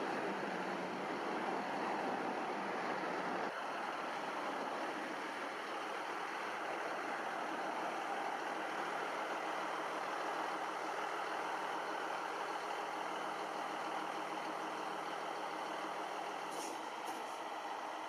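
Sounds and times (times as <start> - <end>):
distant road traffic hum: 0.0 - 18.0.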